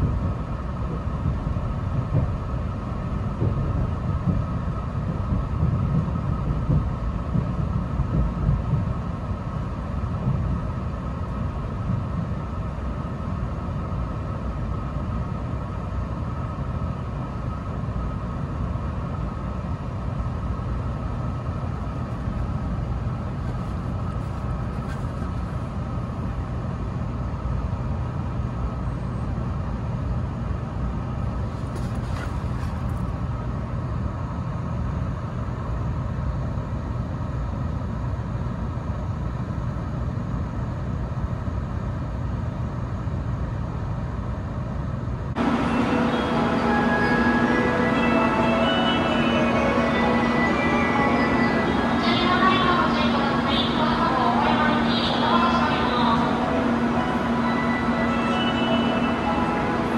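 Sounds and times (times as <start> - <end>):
train cabin rumble and hum: 0.0 - 59.9.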